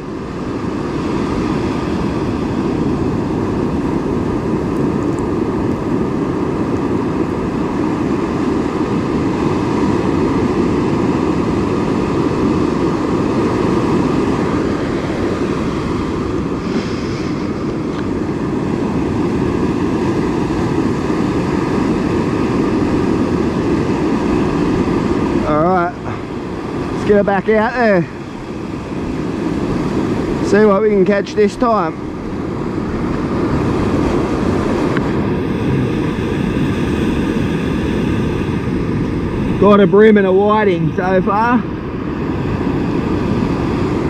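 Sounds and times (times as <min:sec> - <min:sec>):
ocean surf breaking: 0:00.0 - 0:44.0.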